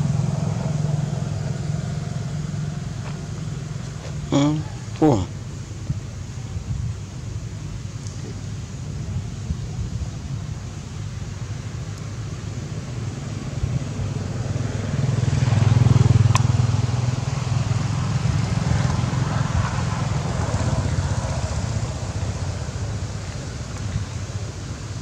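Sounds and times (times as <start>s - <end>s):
passing vehicle engine rumble: 0.0s - 5.9s, 8.8s - 25.0s.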